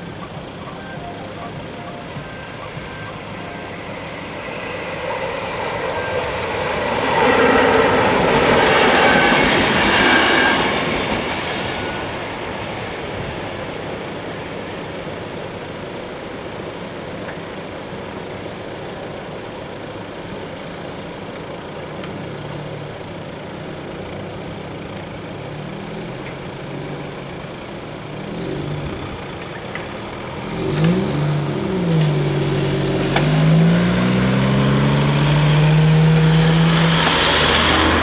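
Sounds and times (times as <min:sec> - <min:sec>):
tyre noise of passing car: 0:00.0 - 0:14.4, 0:21.0 - 0:38.0
car engines accelerating: 0:00.0 - 0:38.0
steady background noise: 0:00.0 - 0:38.0.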